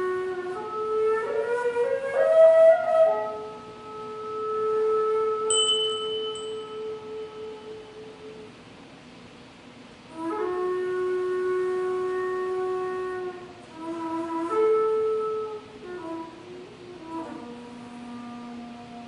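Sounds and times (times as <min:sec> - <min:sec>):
bamboo flute long notes: 0:00.0 - 0:08.6, 0:10.1 - 0:19.0.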